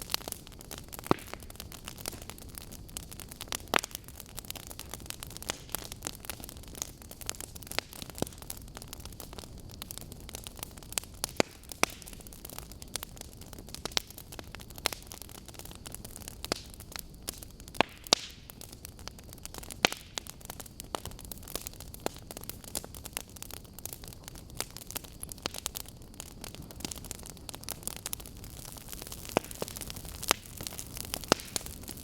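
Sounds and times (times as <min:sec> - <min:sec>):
logs crackling and popping: 0:00.0 - 0:32.0
low rush of flames: 0:00.0 - 0:32.0.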